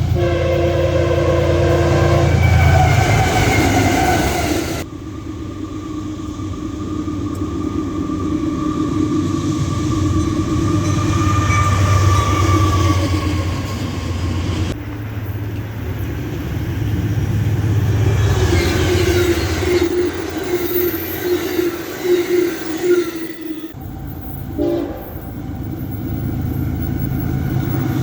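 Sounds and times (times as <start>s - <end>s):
locomotive engine droning: 0.0s - 28.0s.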